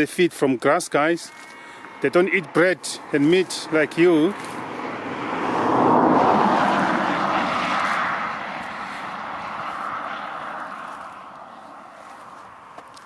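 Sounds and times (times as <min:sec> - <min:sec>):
vehicle passing: 0:01.1 - 0:13.0.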